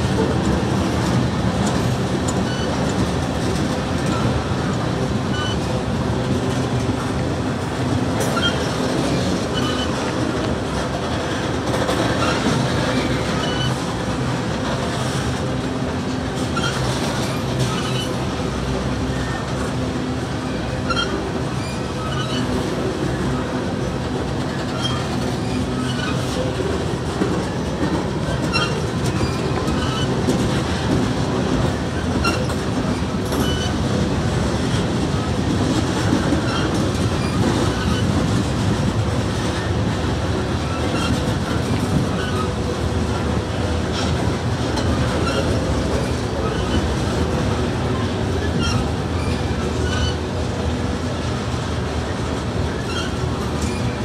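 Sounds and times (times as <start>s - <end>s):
freight train rumbling: 0.0s - 54.0s
wheels clicking over rail joints: 0.0s - 54.0s.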